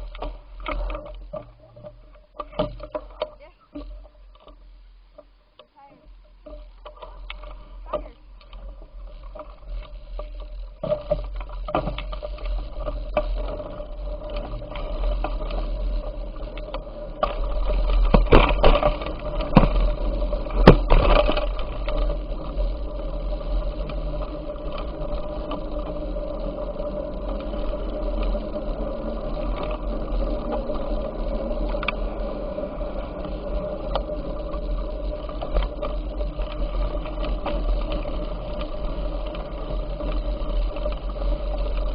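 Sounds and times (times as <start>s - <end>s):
bicycle tyres and drivetrain whirring: 0.0s - 41.9s
low rumble: 0.0s - 41.9s.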